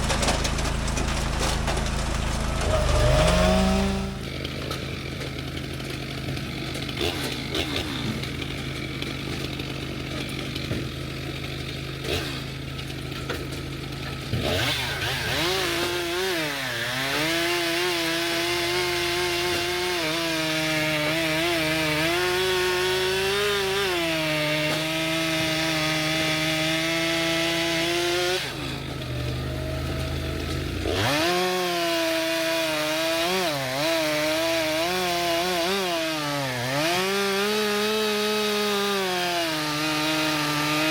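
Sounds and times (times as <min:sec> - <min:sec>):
chainsaw idling and cutting logs: 0:00.0 - 0:40.9.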